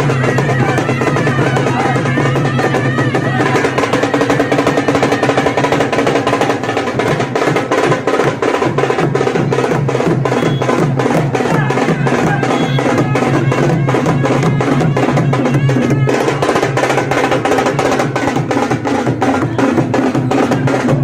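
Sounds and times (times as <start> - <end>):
music with fast drumming: 0.0 - 21.0.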